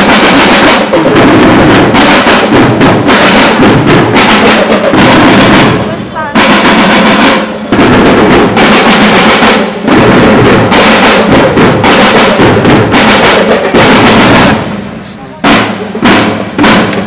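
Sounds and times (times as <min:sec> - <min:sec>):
bass drum beats: 0:00.0 - 0:17.0
snare drum rolls: 0:00.0 - 0:17.0.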